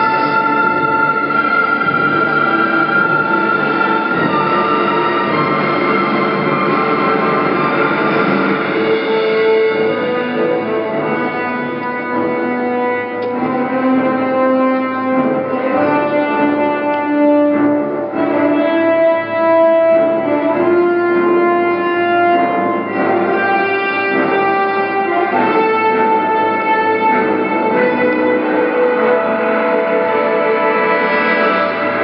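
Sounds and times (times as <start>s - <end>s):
orchestral strings and brass: 0.0s - 32.0s.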